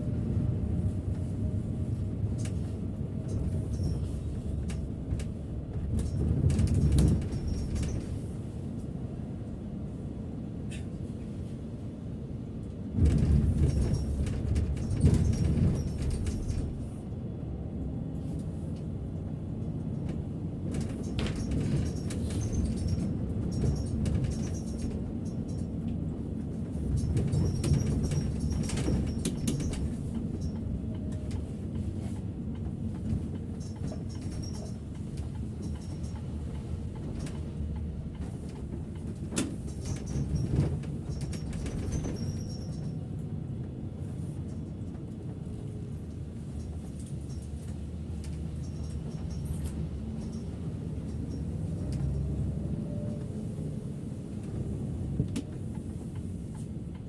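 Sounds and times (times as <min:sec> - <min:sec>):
coach engine and road rumble: 0:00.0 - 0:57.0.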